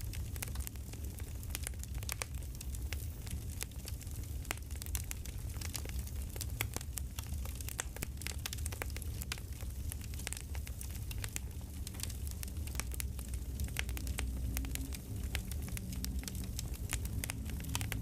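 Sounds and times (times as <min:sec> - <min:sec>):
campfire crackling: 0:00.0 - 0:18.0
fire low rumble: 0:00.0 - 0:18.0.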